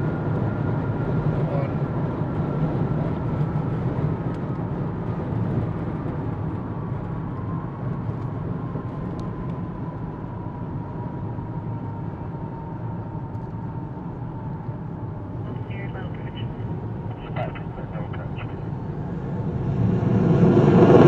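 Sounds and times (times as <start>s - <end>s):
jet engine rumble with whine: 0.0s - 21.0s.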